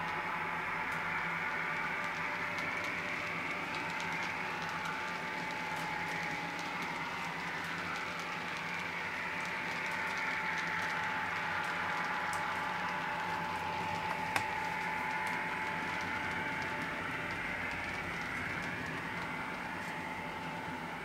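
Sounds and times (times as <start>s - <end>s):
model train rolling noise: 0.0s - 21.0s
model train sound hiss and hum: 0.0s - 21.0s.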